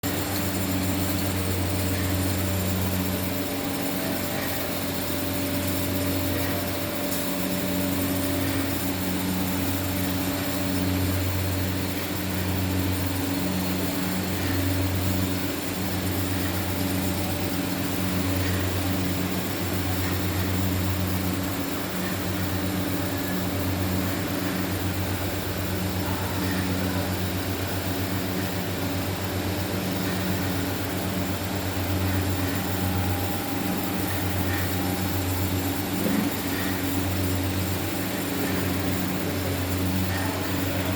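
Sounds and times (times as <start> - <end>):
machinery low electric hum: 0.0 - 40.9.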